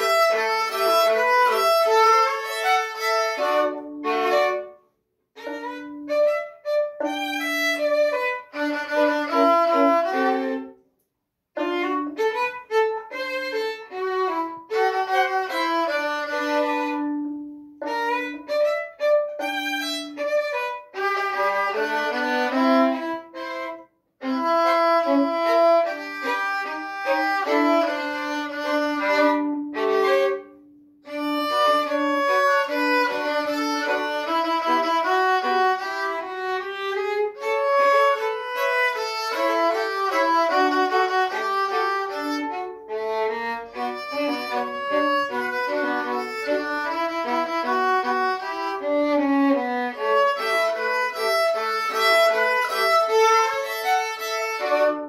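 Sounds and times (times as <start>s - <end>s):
solo violin fiddle tune: 0.0s - 10.8s, 11.5s - 55.0s.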